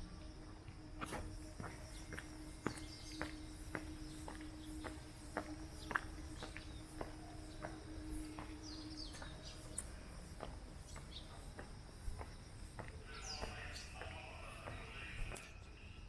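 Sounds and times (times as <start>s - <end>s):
footsteps walking: 0.0s - 15.8s.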